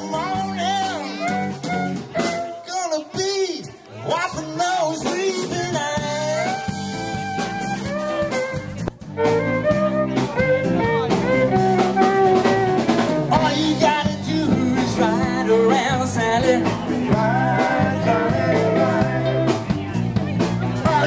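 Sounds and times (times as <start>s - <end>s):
live pop-rock band playing: 0.0s - 21.0s.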